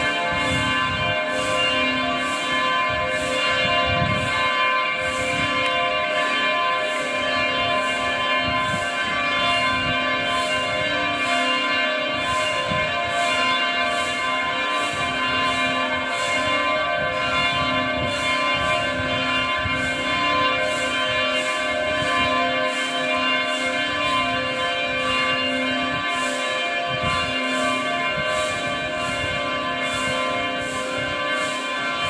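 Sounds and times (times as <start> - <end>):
church bells ringing: 0.0 - 32.0.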